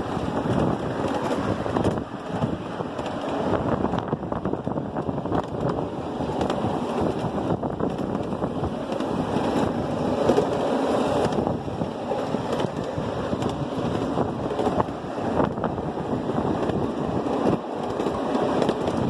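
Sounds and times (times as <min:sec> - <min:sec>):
miniature train running: 0:00.0 - 0:19.0
wind buffeting microphone: 0:00.0 - 0:19.0.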